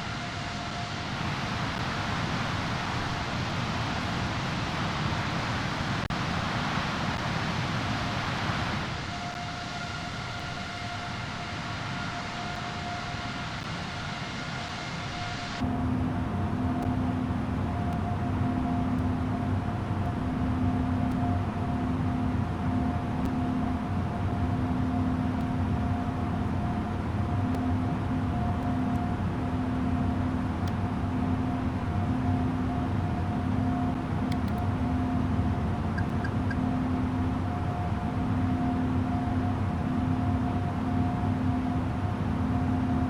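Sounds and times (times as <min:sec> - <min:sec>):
jet airliner engine drone: 0:00.0 - 0:43.0.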